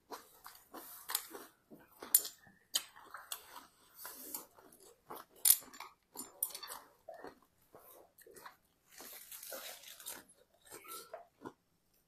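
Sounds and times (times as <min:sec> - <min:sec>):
wet chewing and crunching: 0:00.0 - 0:12.0.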